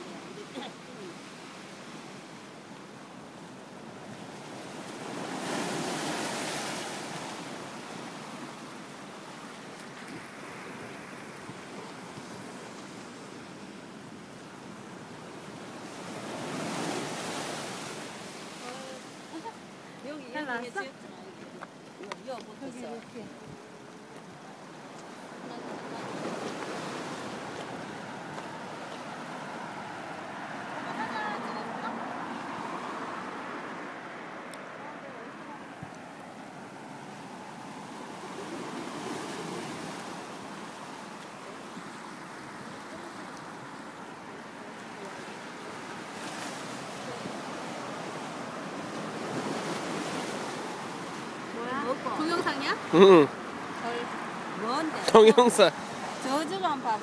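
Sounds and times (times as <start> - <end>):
sea waves washing on shore: 0.0 - 57.0.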